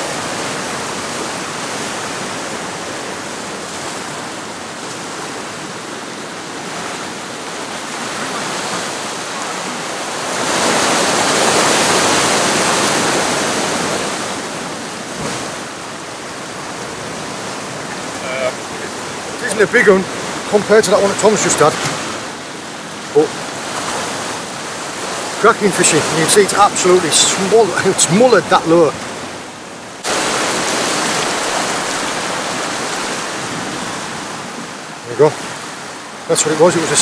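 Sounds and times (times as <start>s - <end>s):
surf washing against rocks: 0.0s - 37.0s
wave surging: 0.0s - 37.0s.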